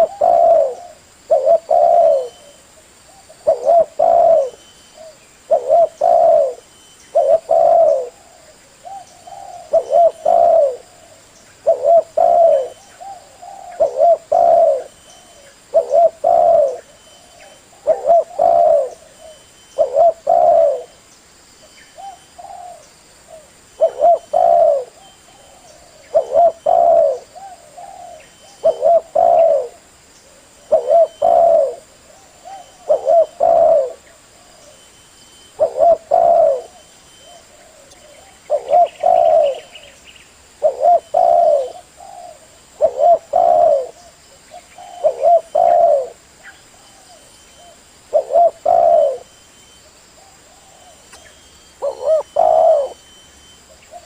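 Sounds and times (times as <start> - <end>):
dove cooing: 0.0 - 21.0, 22.0 - 54.0.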